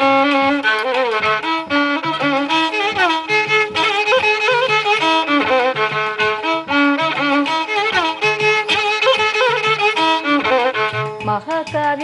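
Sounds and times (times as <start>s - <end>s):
clay pot drum strokes: 0.0s - 12.0s
violin melody with sliding ornaments: 0.0s - 12.0s.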